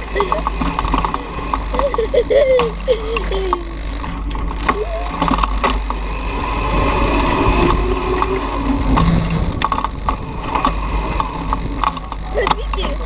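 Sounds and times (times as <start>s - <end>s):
chain and tyre noise: 0.0s - 13.0s
electric motor whining: 0.0s - 13.0s
low rumble: 0.0s - 13.0s.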